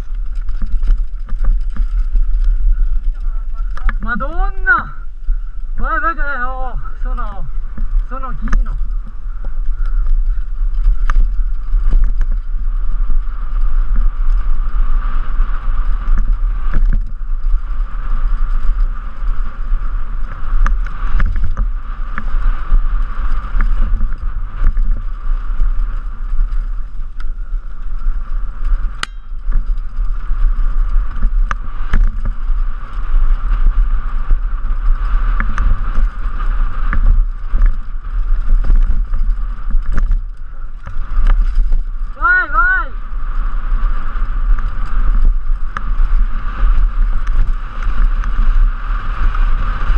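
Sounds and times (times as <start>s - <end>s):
bike rattling: 0.0s - 49.9s
wind rumble on microphone: 0.0s - 49.9s.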